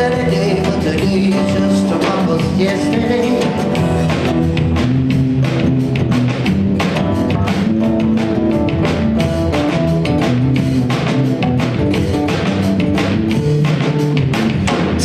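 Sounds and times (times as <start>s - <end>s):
drum kit beat: 0.0s - 15.0s
live band playing hip hop: 0.0s - 15.0s.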